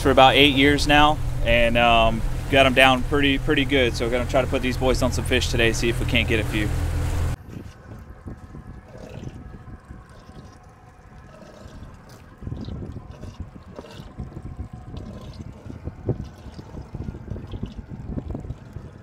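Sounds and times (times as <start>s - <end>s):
water sloshing and trickling: 0.0s - 19.0s.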